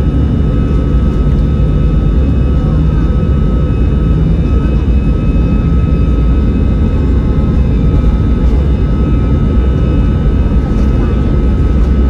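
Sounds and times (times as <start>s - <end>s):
high engine whine: 0.0s - 12.0s
jet engine rumble: 0.0s - 12.0s.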